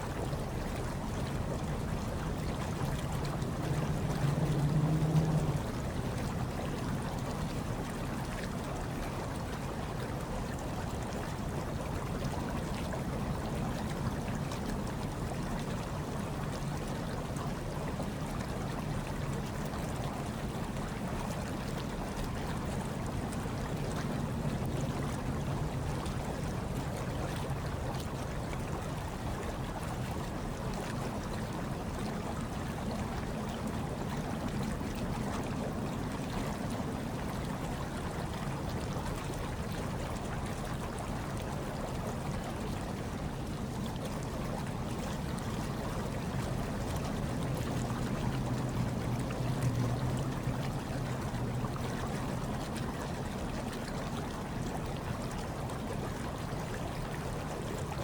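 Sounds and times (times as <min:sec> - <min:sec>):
hot tub water bubbling: 0:00.0 - 0:58.0.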